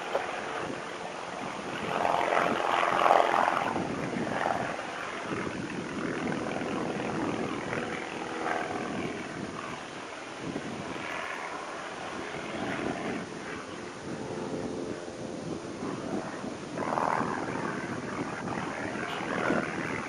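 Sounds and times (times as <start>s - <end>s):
propeller airplane passing by: 0.0s - 20.0s.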